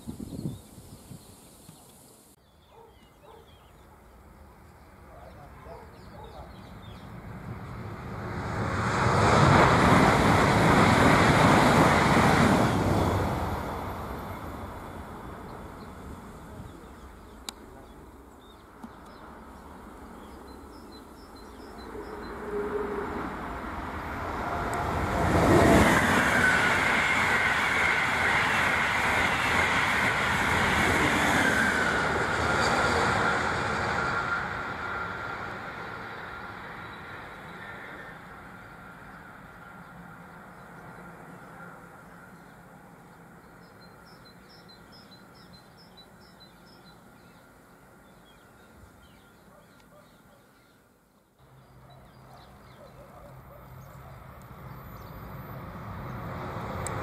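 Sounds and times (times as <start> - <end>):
train high whine: 6.6 - 18.4, 19.1 - 49.4, 51.4 - 57.0
high-speed train rushing past: 6.7 - 49.0, 53.1 - 57.0.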